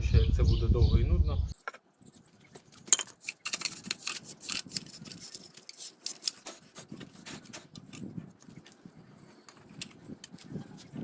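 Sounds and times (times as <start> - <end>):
metal parts clicking and scraping: 1.6 - 11.0.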